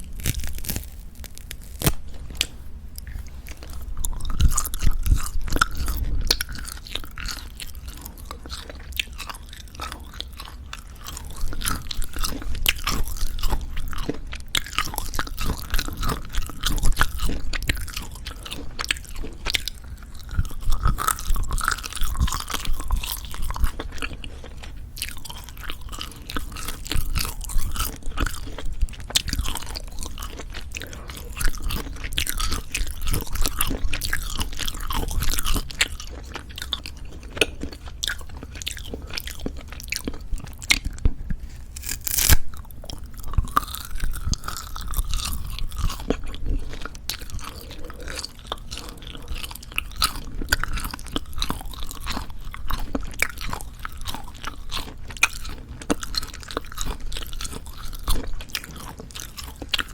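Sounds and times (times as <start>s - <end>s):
close chewing: 0.0s - 59.9s.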